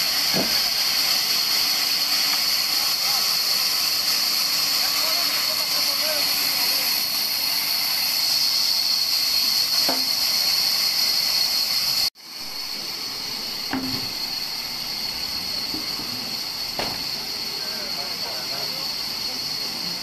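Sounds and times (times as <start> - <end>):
band saw hiss and whine: 0.0 - 20.0.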